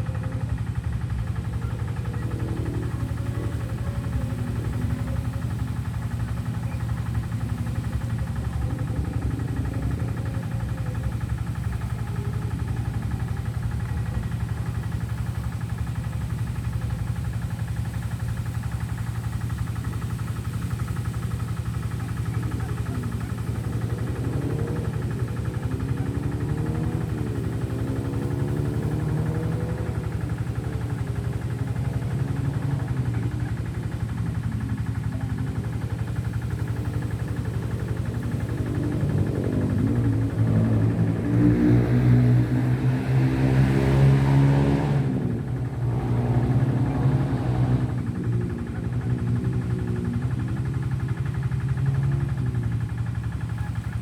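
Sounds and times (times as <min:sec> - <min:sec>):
motor engine running: 0:00.0 - 0:54.0.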